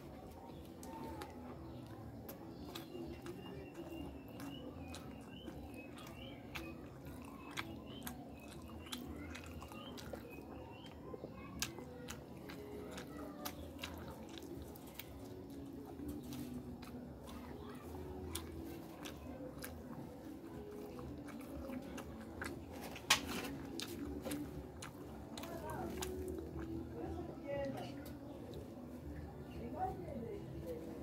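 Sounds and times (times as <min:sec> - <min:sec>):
person chewing with mouth smacks: 0:00.0 - 0:29.3
sharp clicks and squishes: 0:00.2 - 0:28.7.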